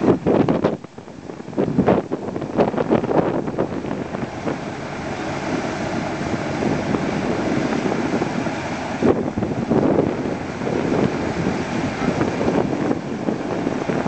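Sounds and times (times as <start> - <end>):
low machine rumble: 0.0 - 14.0
wind buffeting microphone: 0.0 - 14.0.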